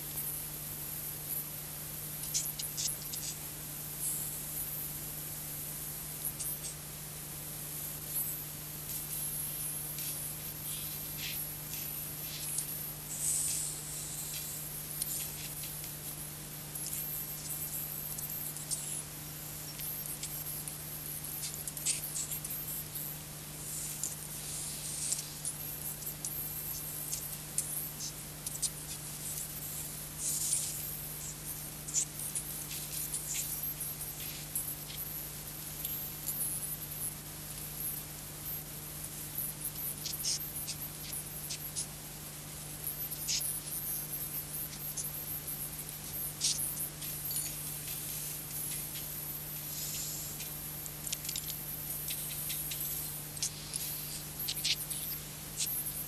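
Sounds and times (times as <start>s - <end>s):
crackles and clicks: 7.7s - 56.0s.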